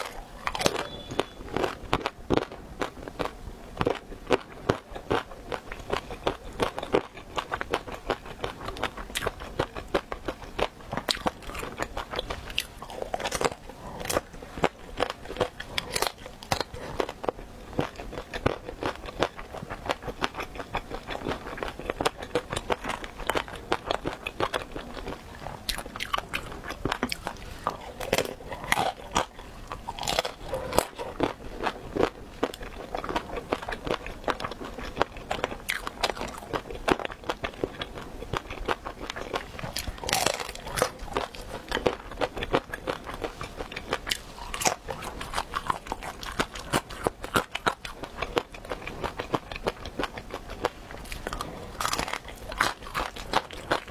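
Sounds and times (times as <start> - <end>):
crunchy bites and chewing: 0.0 - 53.9.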